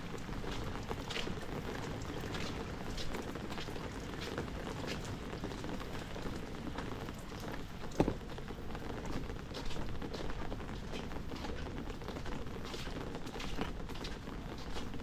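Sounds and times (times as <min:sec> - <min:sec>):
drips and splashes: 0:00.0 - 0:15.0
heavy rain: 0:00.0 - 0:15.0.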